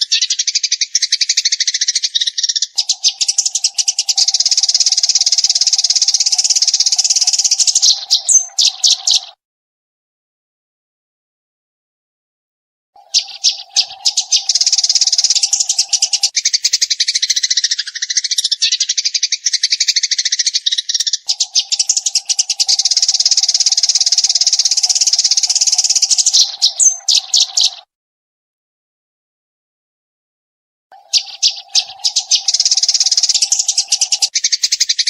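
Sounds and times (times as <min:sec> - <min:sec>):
sparrow chirping rapidly: 0:00.0 - 0:09.4, 0:13.0 - 0:27.9, 0:31.0 - 0:35.0.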